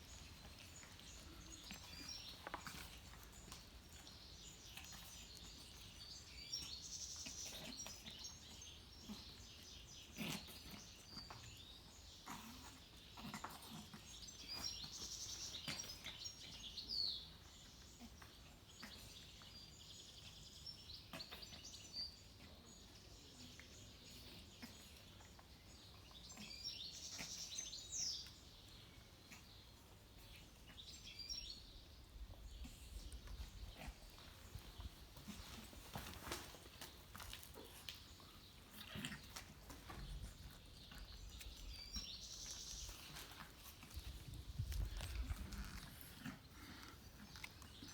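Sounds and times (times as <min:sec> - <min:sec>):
quiet outdoor background noise: 0:00.0 - 0:47.9
small birds chirping: 0:00.0 - 0:47.9.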